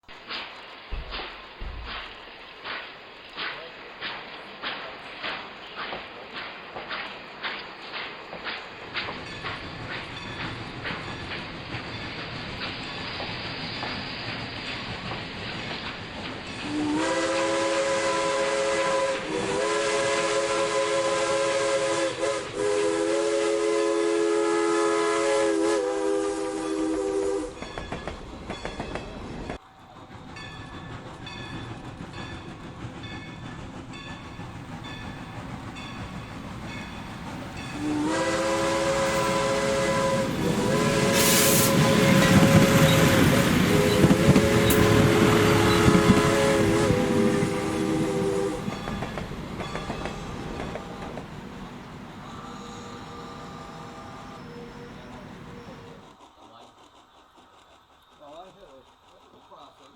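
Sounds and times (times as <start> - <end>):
steam locomotive chuffing: 0.0 - 59.9
steam locomotive chime whistle: 3.4 - 14.9, 16.4 - 29.6, 30.2 - 56.1.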